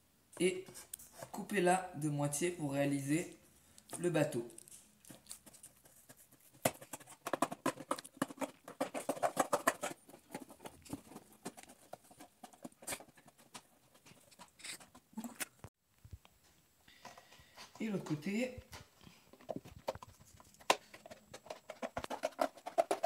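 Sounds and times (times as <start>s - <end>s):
handling rustles: 3.6s - 23.0s.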